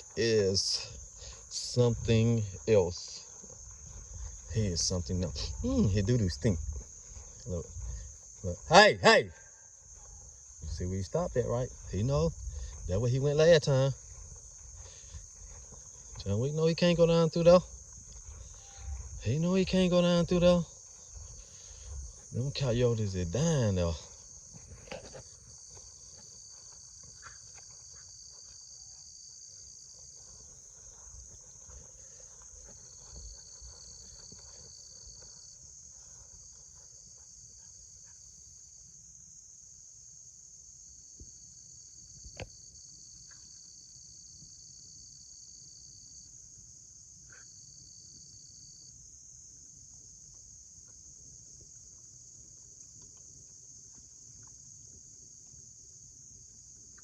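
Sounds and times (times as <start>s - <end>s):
high-pitched insect chorus: 0.0s - 57.0s
lower insect trill: 0.0s - 57.0s.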